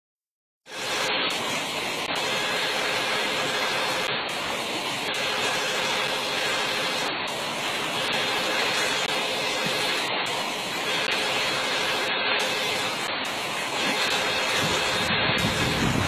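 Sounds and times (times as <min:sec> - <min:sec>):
fast-flowing stream rushing: 0:00.7 - 0:16.0.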